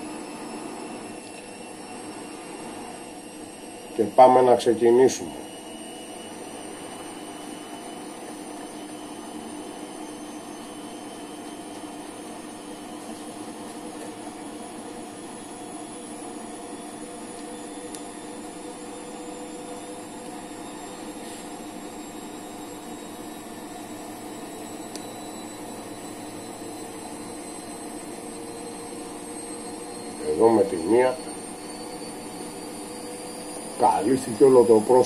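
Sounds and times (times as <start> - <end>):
machine hum with high whine: 0.0 - 35.0.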